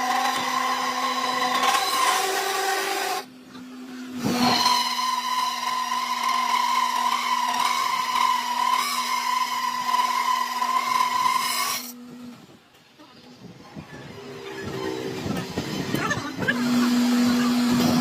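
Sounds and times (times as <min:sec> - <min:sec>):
workshop machine whining: 0:00.0 - 0:18.0.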